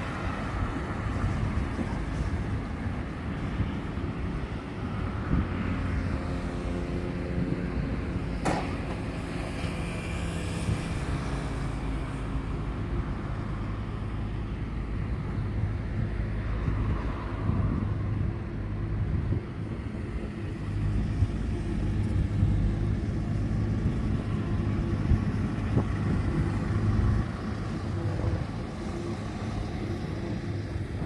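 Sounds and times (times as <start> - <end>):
passing vehicle engine hum: 0.0 - 31.0.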